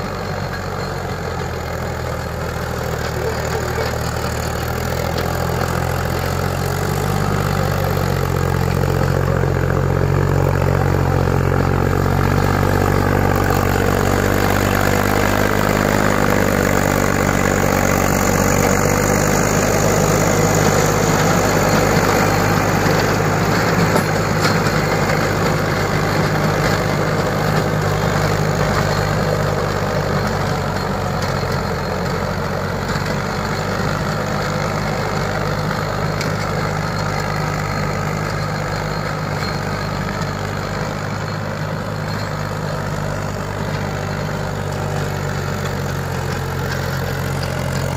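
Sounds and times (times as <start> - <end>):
rotavator tilling soil: 0.0 - 47.9
tractor diesel engine running: 0.0 - 47.9.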